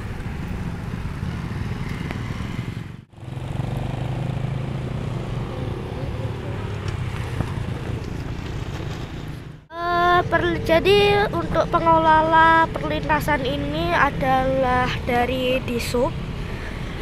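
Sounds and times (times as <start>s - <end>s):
motorcycle and car engines passing: 0.0s - 17.0s.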